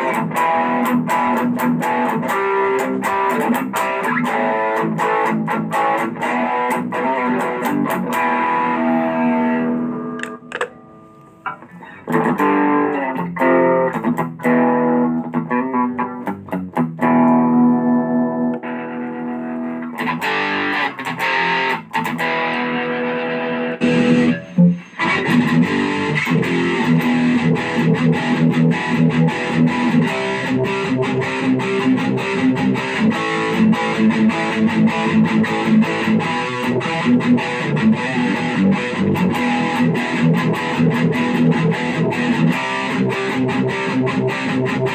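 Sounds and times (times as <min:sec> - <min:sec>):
distorted electric guitar: 0:00.0 - 0:44.9.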